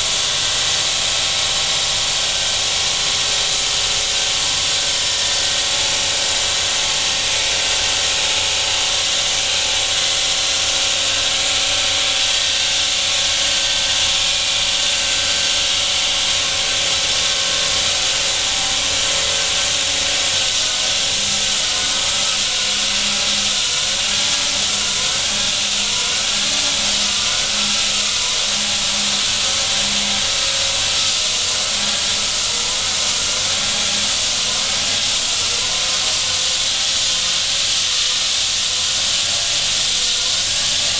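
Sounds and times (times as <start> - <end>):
concrete wall saw cutting: 0.0 - 40.9.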